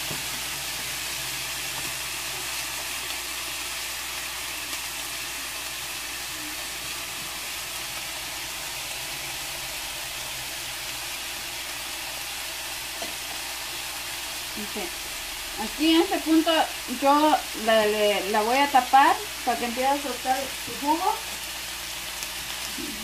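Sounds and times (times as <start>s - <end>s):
ribs sizzling in a frying pan: 0.0s - 23.0s.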